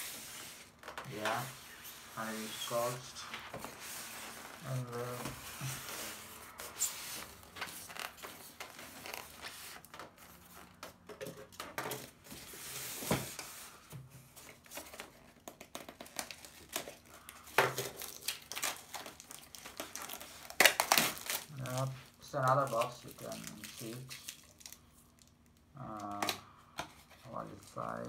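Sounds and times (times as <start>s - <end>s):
packaging crinkling and rustling: 0.0s - 13.6s, 14.2s - 28.0s.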